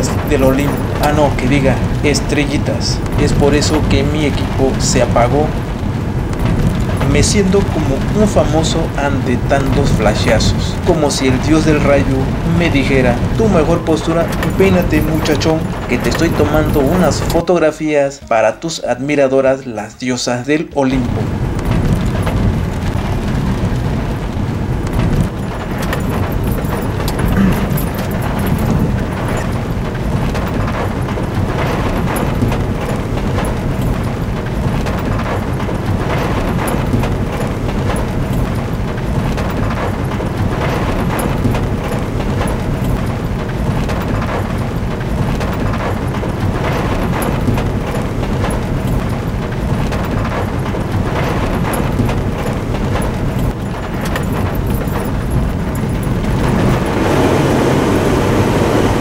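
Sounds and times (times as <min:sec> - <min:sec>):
car engine running: 0:00.0 - 0:17.4, 0:20.9 - 0:59.0
heavy rain on car: 0:00.0 - 0:18.4, 0:20.8 - 0:59.0
road noise: 0:00.0 - 0:18.7, 0:20.6 - 0:59.0
car body rattling and knocking: 0:00.0 - 0:18.8, 0:20.8 - 0:59.0.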